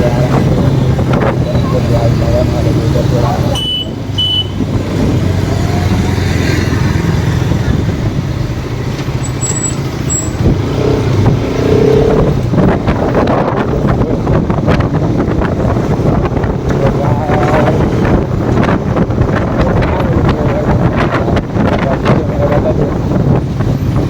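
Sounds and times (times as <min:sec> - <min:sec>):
motorcycle engine running: 0:00.0 - 0:24.0
road noise: 0:00.0 - 0:24.0
wind buffeting microphone: 0:00.0 - 0:24.0.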